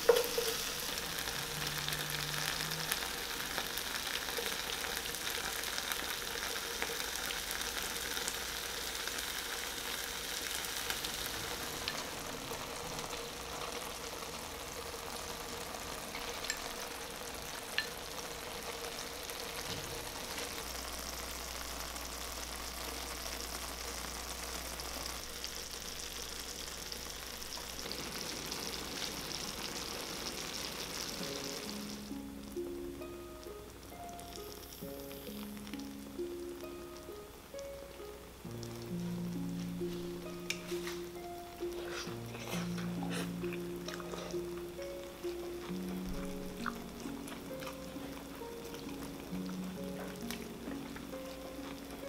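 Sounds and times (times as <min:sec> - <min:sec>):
food sizzling in a pan: 0:00.0 - 0:52.0.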